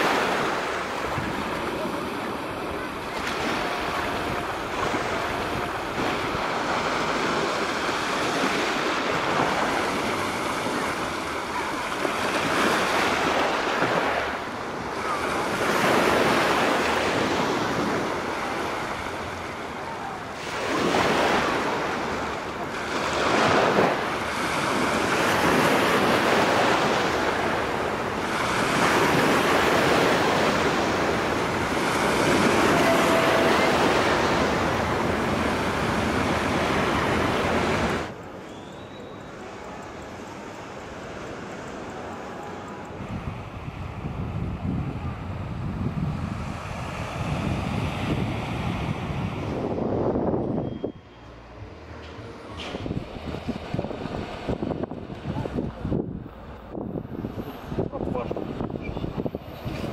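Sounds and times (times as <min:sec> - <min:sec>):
sea waves breaking on shore: 0:00.0 - 0:38.4, 0:39.3 - 0:59.9.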